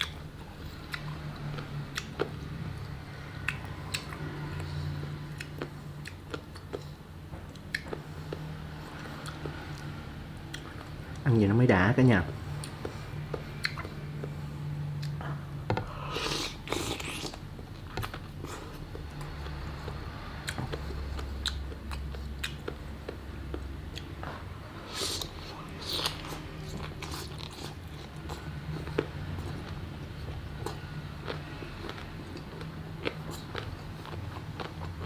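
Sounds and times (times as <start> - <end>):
chewing and biting: 0.0 - 11.3, 12.3 - 35.0.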